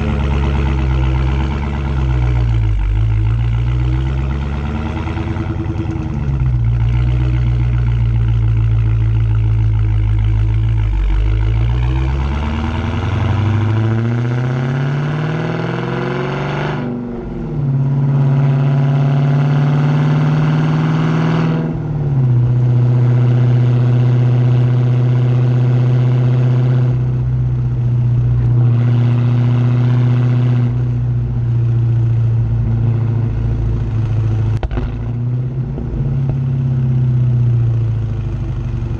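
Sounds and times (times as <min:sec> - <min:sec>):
car engine accelerating and shifting: 0:00.0 - 0:38.9.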